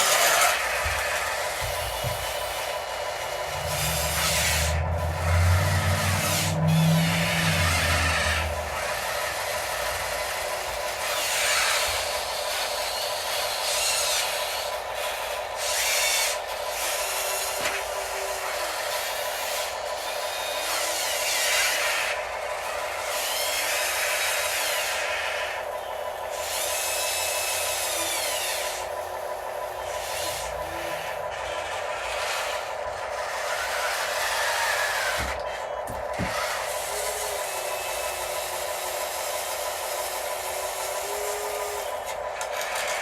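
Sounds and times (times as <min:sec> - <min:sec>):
mechanical hum: 0:00.0 - 0:43.0
small electric motors whining: 0:00.0 - 0:43.0.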